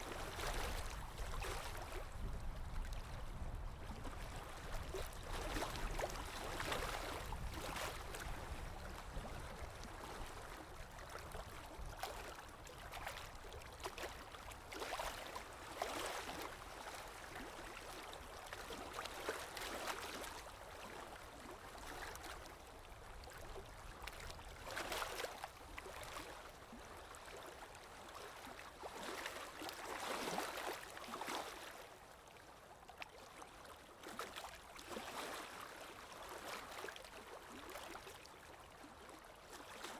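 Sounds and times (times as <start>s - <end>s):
water lapping: 0.0s - 39.9s.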